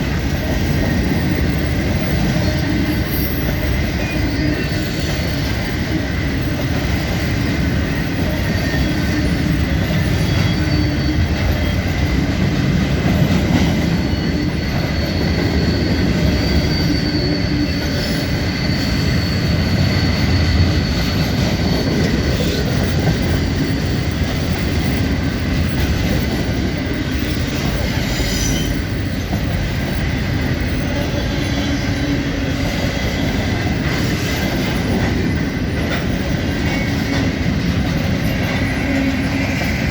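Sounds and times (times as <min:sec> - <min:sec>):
high wheel squeal: 0:00.0 - 0:39.9
steel wheels rumbling on rail: 0:00.0 - 0:39.9.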